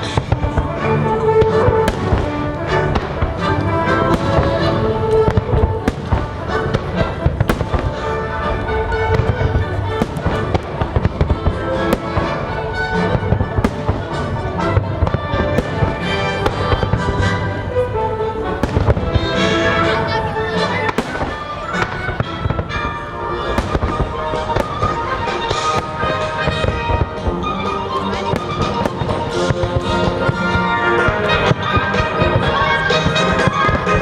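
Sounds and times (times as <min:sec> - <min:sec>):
fireworks bangs and crackles: 0:00.0 - 0:34.0
patriotic show music: 0:00.0 - 0:34.0.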